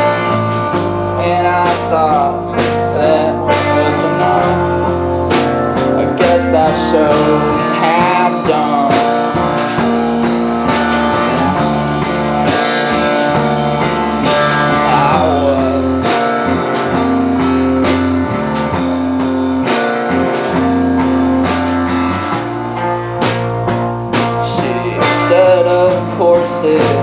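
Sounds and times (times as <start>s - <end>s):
bass guitar: 0.0s - 27.0s
drum kit: 0.0s - 27.0s
electric guitar: 0.0s - 27.0s.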